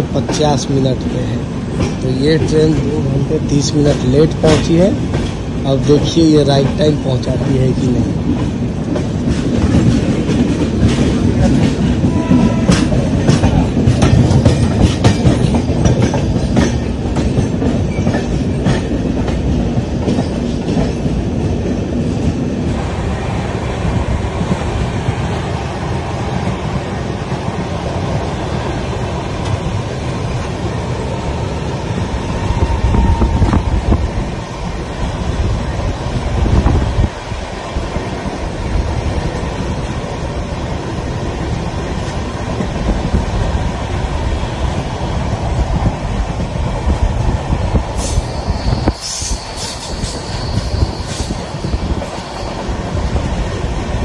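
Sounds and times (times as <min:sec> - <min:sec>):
train wheels clattering over rail joints: 0:00.0 - 0:22.8, 0:26.2 - 0:54.0
train rumble: 0:00.0 - 0:54.0.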